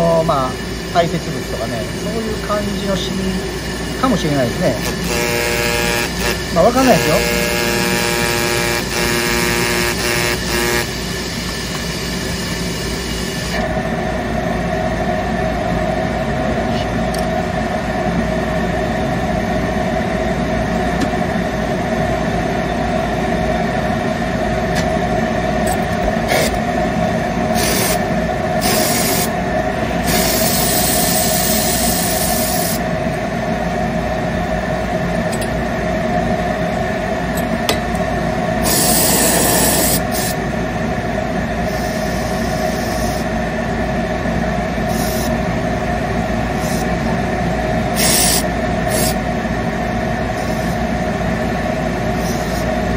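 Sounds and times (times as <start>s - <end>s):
machine motor drone: 0.0s - 52.9s
steady hum: 0.0s - 52.9s.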